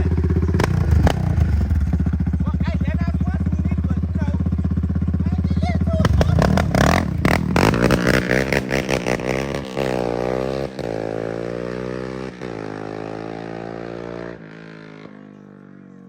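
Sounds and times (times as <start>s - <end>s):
atv engine revving and idling: 0.0s - 16.0s.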